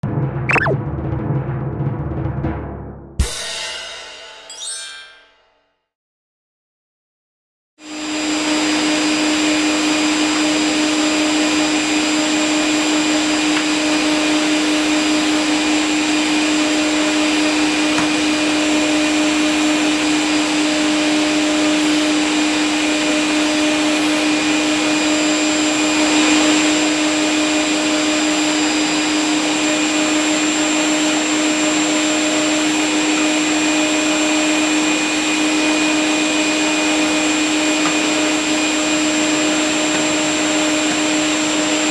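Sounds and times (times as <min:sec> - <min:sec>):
vacuum cleaner running: 0:07.8 - 0:41.9.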